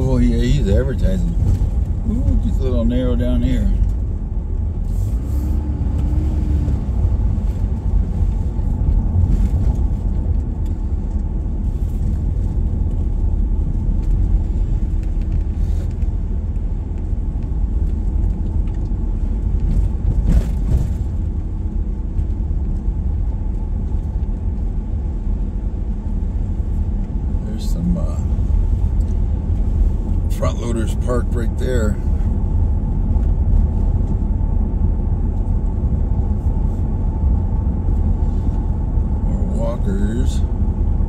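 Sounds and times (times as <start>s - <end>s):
car driving on road: 0.0s - 41.0s.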